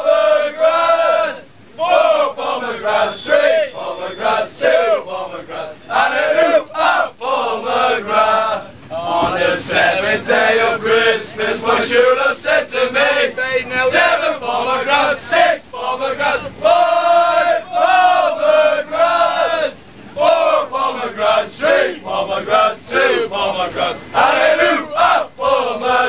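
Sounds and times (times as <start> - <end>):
men chanting and singing: 0.0 - 26.0.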